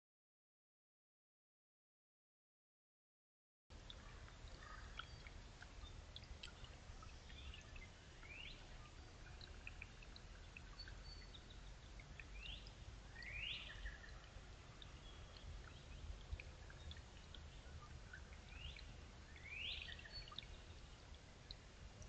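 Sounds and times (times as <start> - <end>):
faint low background noise: 3.7 - 22.0
faint bird chirps: 3.8 - 21.7.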